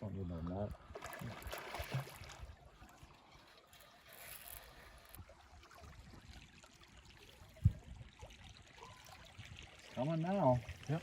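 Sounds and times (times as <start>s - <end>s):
river water lapping around boat: 0.1s - 11.0s.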